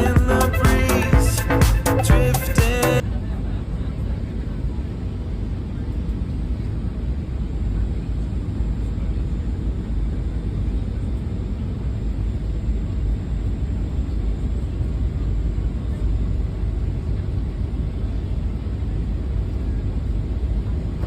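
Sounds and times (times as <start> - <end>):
aircraft rumble: 0.0 - 21.0.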